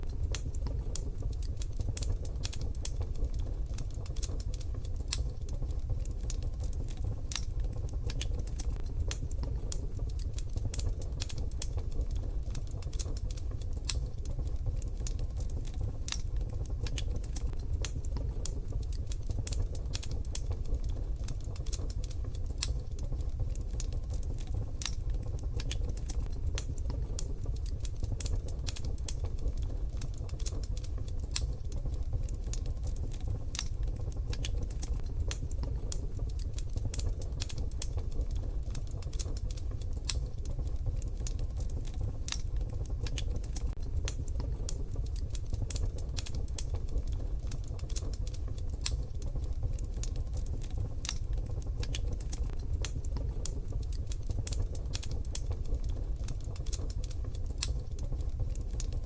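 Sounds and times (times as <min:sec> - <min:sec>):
wood fire crackling in a stove: 0:00.0 - 0:59.0.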